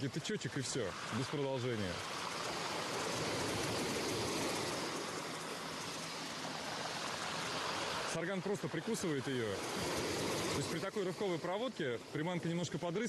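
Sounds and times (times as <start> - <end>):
waves washing onto shingle: 0.0 - 13.0.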